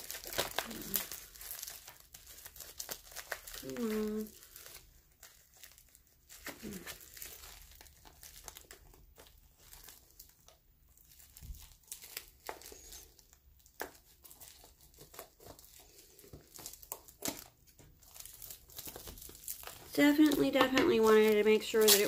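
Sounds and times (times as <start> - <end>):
bubble wrap and tape crinkling: 0.0 - 22.0.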